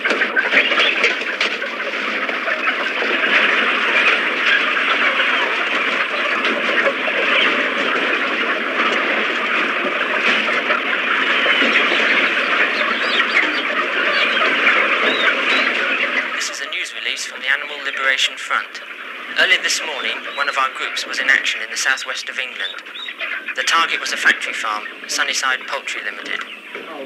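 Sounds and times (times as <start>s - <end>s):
hens clucking and squawking: 0.0s - 27.0s.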